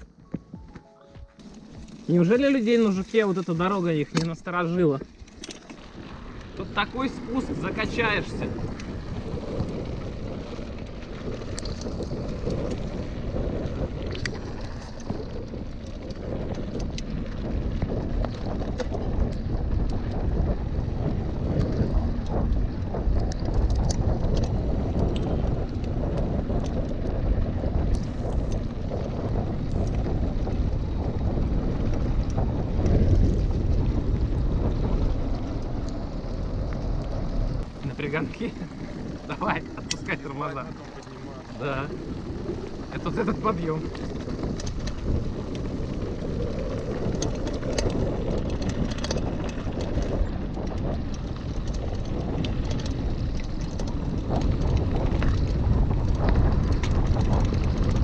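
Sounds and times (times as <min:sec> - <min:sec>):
bike clicks and rattles: 0:00.0 - 0:58.0
tyres rumbling on dirt: 0:00.0 - 0:58.0
wind buffeting microphone: 0:00.0 - 0:58.0.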